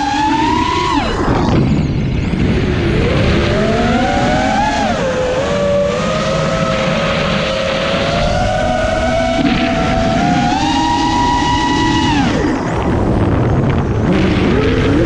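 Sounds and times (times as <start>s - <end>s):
drone motors whining: 0.0s - 15.0s
steady rushing noise: 0.0s - 15.0s.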